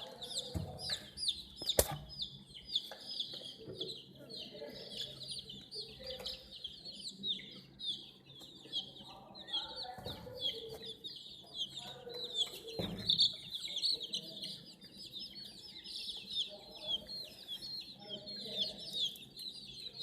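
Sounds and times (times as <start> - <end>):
baby chicks cheeping: 0.0 - 20.0.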